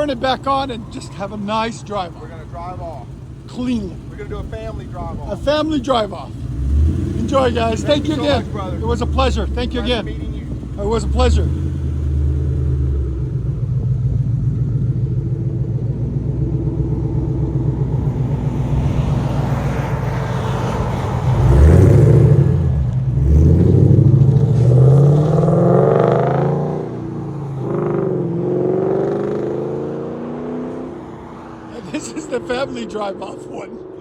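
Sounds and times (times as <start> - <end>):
car engine idling and revving: 0.0 - 34.0
car pulling away: 0.0 - 34.0.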